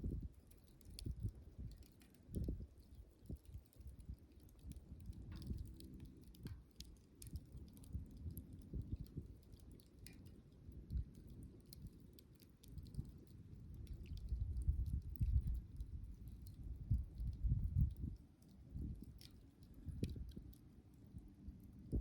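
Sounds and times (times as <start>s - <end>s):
bonfire crackling and popping: 0.0s - 22.0s.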